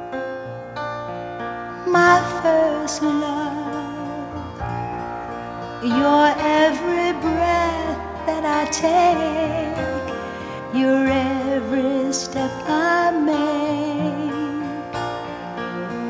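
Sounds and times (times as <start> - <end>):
slow love ballad: 0.0 - 16.0.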